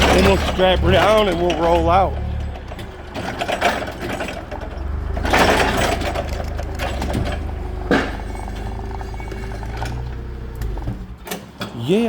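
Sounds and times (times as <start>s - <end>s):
engine running: 0.0s - 11.6s.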